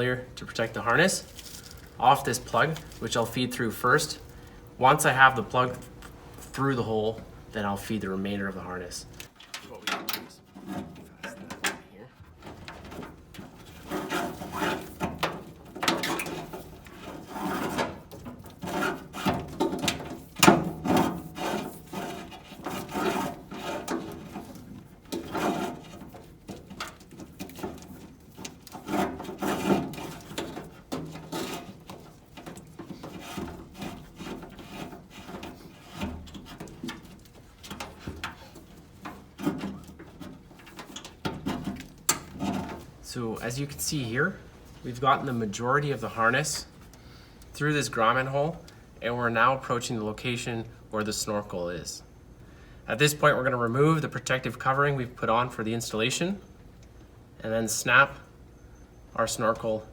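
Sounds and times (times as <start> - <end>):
wiring harness rubbing and scraping: 0.0 - 50.1.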